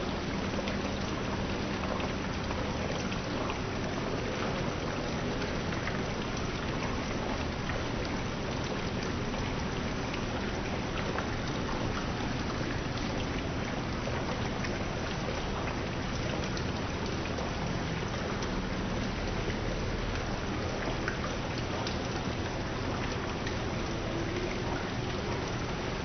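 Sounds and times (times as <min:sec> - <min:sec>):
fountain water splashing: 0:00.0 - 0:26.0.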